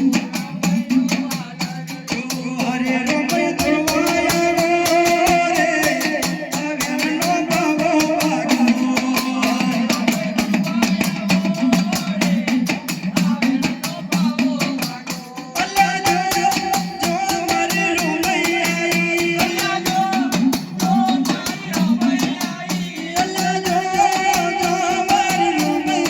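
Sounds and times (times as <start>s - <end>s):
fast steady drum beat: 0.0s - 26.0s.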